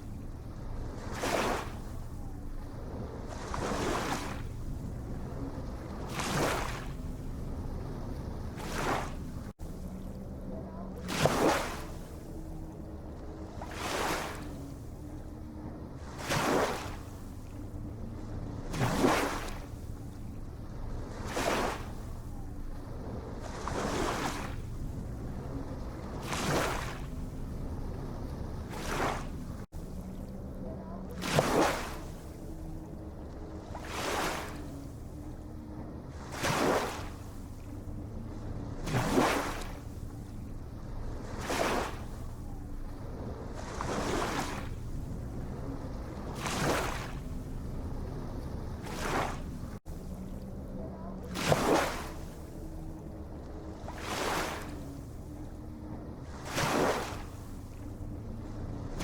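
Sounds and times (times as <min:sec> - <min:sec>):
low steady hum: 0:00.0 - 0:59.0
ocean waves breaking: 0:00.0 - 0:59.0.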